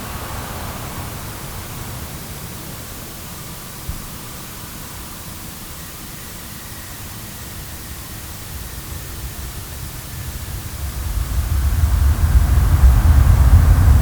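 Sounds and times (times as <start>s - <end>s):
airplane hiss with faint whine: 0.0s - 14.0s
airplane low rumble: 0.0s - 14.0s.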